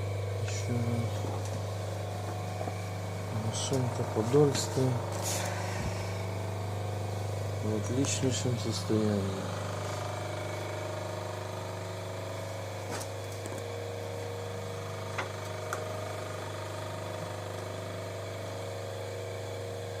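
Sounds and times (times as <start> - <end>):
sewing machine motor humming: 0.0 - 19.9.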